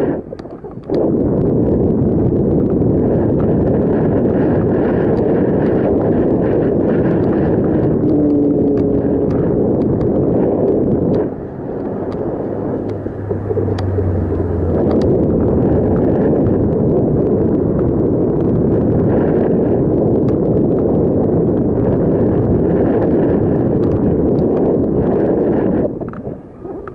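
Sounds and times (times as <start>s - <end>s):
low steady hum: 0.0s - 26.9s
wind buffeting microphone: 0.0s - 26.9s.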